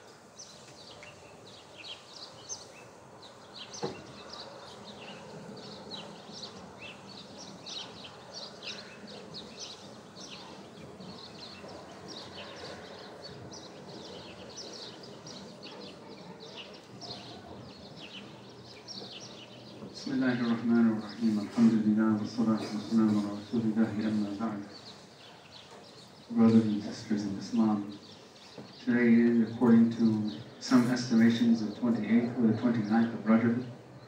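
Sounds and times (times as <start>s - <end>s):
low murmur of congregation: 0.0s - 34.0s.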